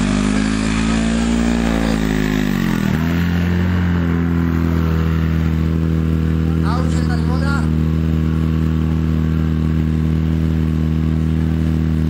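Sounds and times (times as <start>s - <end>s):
pump engine running hard: 0.0s - 12.0s.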